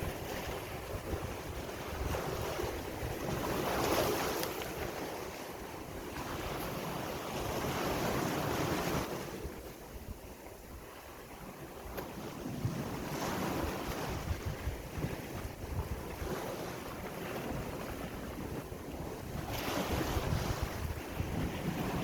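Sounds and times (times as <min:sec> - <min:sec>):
sea waves breaking on shore: 0:00.0 - 0:22.0
wind buffeting microphone: 0:00.0 - 0:22.0.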